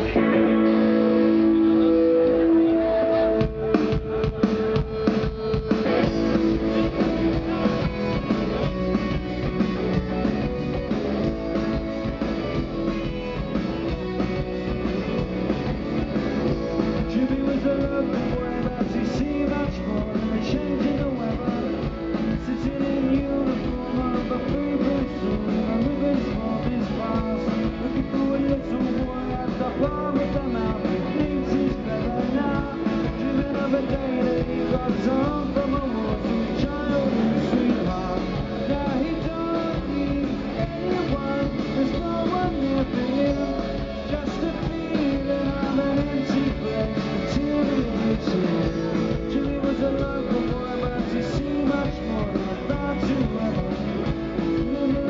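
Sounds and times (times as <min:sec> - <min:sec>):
drum kit: 0:00.0 - 0:55.0
electric bass: 0:00.0 - 0:55.0
electric guitars: 0:00.0 - 0:55.0.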